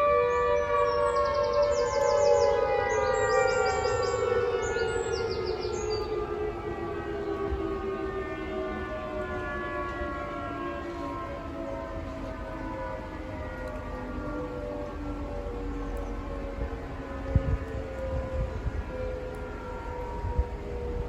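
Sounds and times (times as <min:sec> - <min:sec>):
warning siren winding down: 0:00.0 - 0:21.0.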